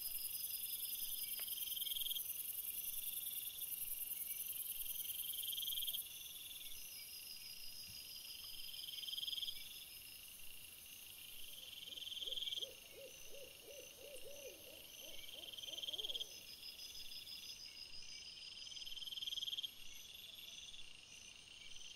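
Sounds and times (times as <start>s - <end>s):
crickets chirping: 0.0s - 21.9s.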